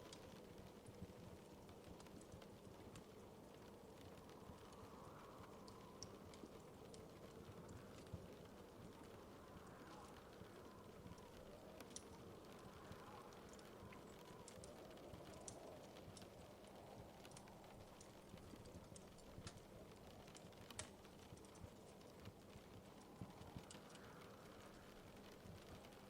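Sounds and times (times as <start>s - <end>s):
faint wood fire crackling: 0.0s - 26.0s.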